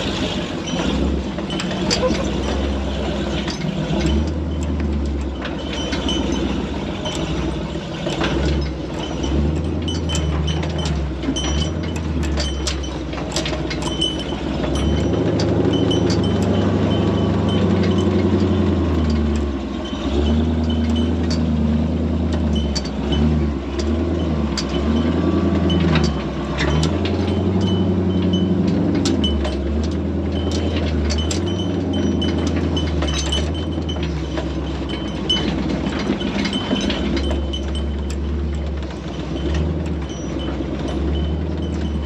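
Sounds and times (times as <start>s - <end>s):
metallic clanks and rattles: 0.0s - 42.0s
truck engine running: 0.0s - 42.0s.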